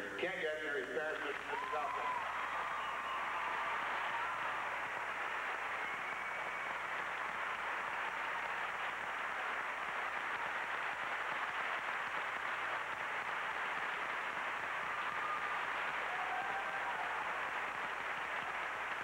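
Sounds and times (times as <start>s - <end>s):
large crowd applauding: 0.6s - 19.0s.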